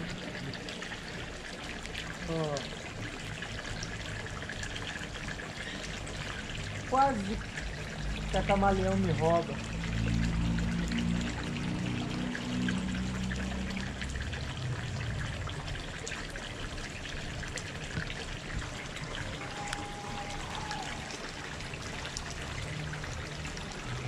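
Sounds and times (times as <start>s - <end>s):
rain on water surface: 0.0s - 24.0s
water trickling into a pond: 0.0s - 24.0s.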